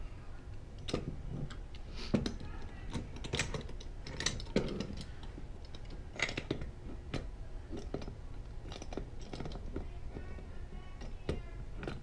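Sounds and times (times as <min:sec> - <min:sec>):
metal parts clicking and knocking: 0:00.7 - 0:12.0.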